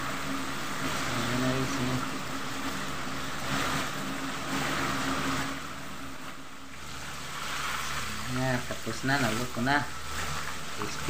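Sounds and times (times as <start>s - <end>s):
constant low hum: 0.0s - 11.0s
oil sizzling and bubbling: 0.0s - 11.0s.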